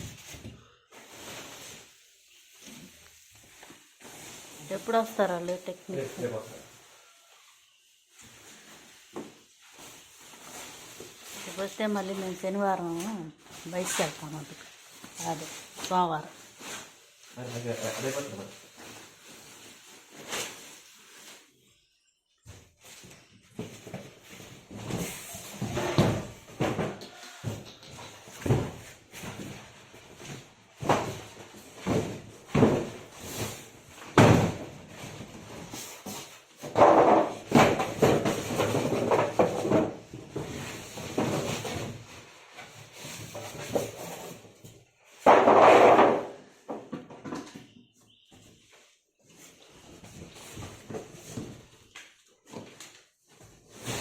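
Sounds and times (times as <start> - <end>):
rustling or scraping noise: 0.0 - 21.8, 22.5 - 46.6, 48.3 - 54.0.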